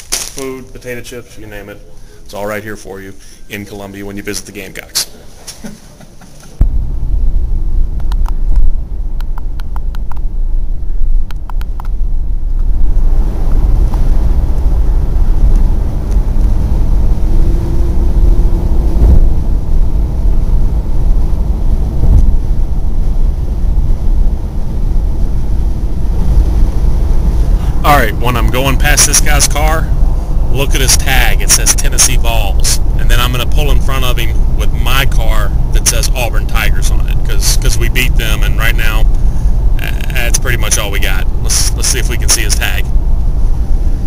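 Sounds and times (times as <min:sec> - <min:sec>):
car interior road rumble: 0:06.3 - 0:44.0.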